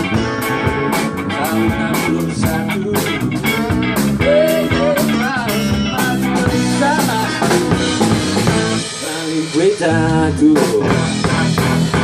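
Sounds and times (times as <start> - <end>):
blues-rock band playing: 0.0 - 12.0
man singing: 0.0 - 12.0.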